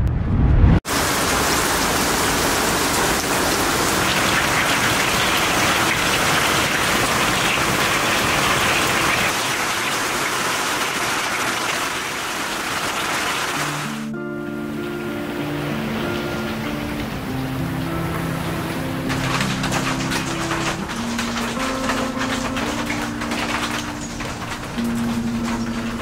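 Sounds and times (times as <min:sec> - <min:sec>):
heavy rain falling: 0:00.9 - 0:26.0.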